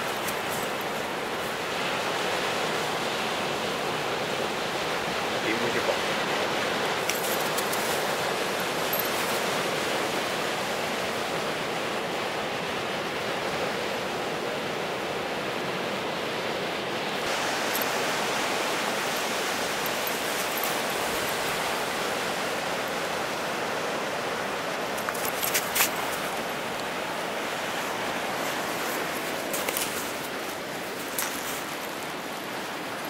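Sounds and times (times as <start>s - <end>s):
ocean surf rushing: 0.0s - 33.0s.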